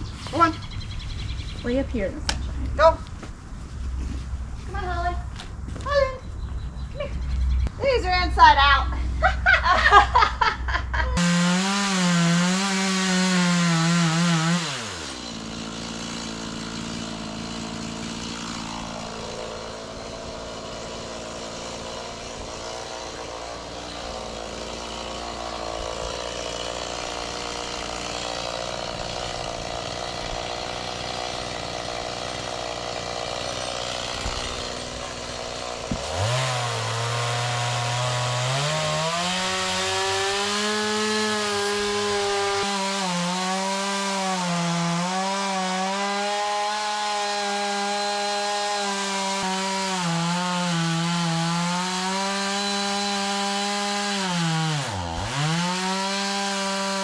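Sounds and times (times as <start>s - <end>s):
chainsaw running: 11.2s - 57.0s.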